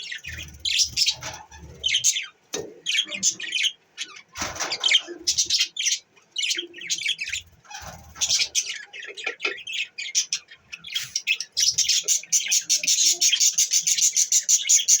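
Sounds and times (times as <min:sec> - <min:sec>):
budgerigars chirping: 0:00.0 - 0:15.0.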